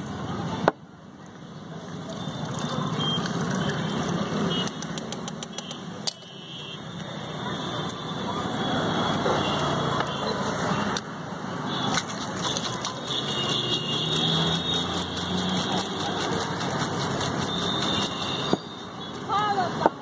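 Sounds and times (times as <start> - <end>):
roadside traffic noise: 0.0 - 20.0.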